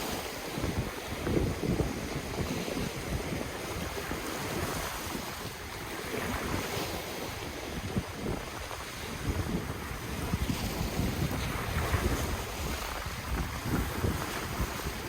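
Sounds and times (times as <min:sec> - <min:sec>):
ocean waves washing on shore: 0:00.0 - 0:15.0
wind buffeting the microphone: 0:00.0 - 0:15.0.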